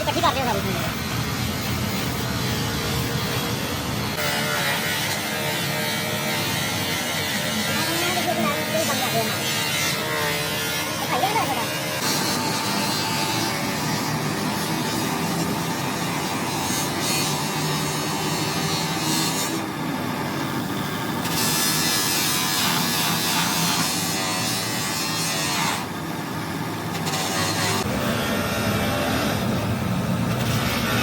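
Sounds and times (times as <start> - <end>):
small electric motor humming: 0.0 - 31.0.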